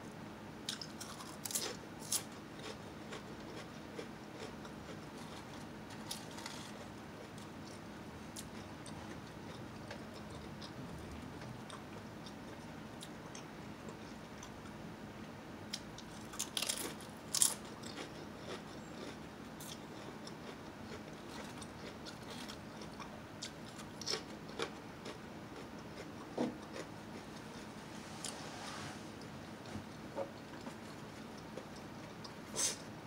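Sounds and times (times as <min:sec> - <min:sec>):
person chewing crunchy chips: 0:00.7 - 0:14.6, 0:15.7 - 0:28.4.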